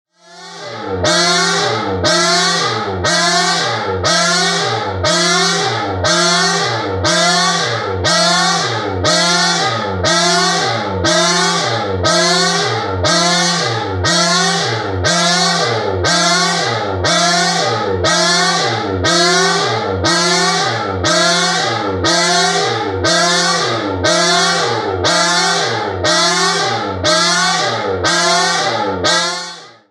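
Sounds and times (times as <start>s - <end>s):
whooping electronic siren: 0.1s - 29.9s.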